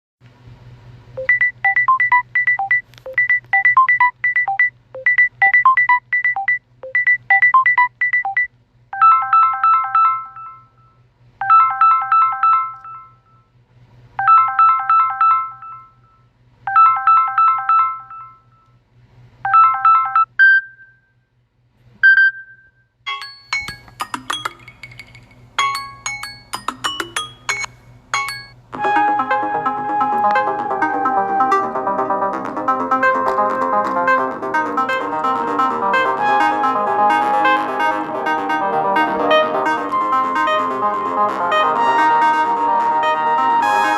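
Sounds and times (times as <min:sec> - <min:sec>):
electronic ringtone melodies: 0:01.2 - 0:13.4, 0:14.2 - 0:18.6, 0:19.5 - 0:21.0, 0:22.2 - 0:43.9.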